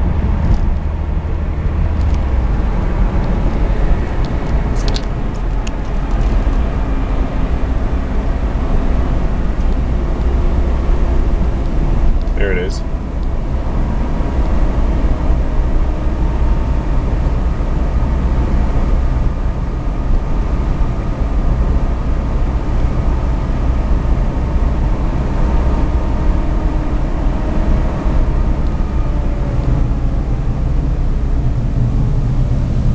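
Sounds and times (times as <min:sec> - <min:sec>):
car engine low rumble: 0:00.0 - 0:32.9.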